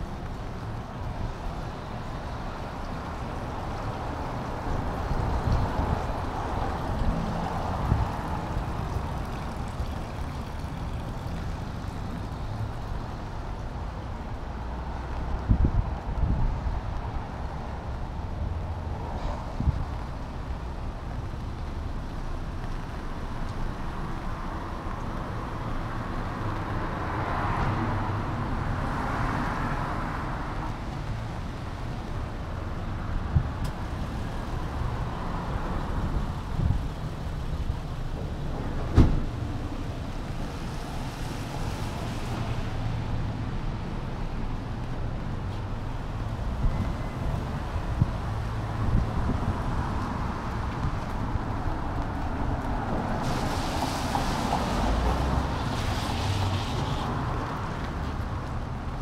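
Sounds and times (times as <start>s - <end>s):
wind rumble on microphone: 0.0s - 26.7s, 27.4s - 59.0s
cars passing on wet road: 0.0s - 59.0s.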